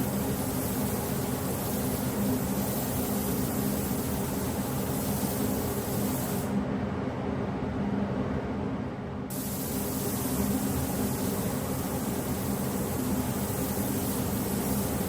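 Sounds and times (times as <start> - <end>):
machine hiss: 0.0 - 6.6, 9.3 - 15.0.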